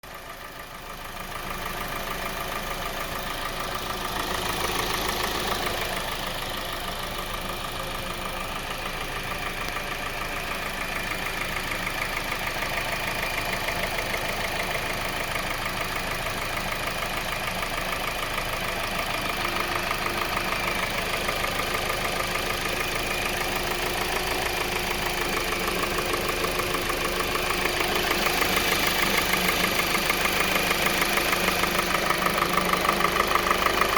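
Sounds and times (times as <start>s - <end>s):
car engine idling: 0.0s - 33.9s
rapid engine knocking: 0.1s - 33.9s.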